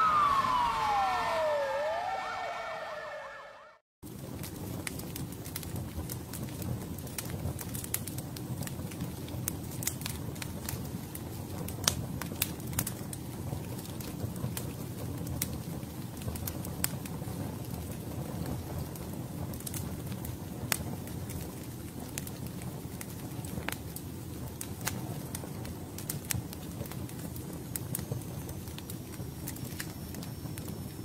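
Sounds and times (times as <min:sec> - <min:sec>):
fire crackling: 0:00.0 - 0:03.4, 0:04.0 - 0:31.0
low rumble of fire: 0:00.0 - 0:31.0.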